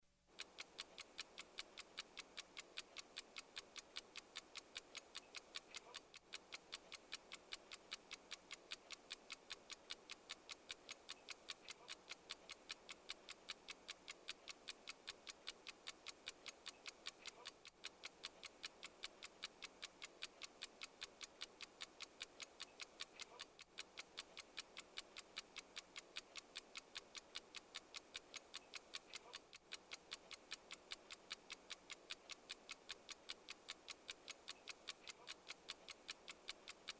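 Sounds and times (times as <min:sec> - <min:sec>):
mechanical clock ticking: 0:00.3 - 0:36.9.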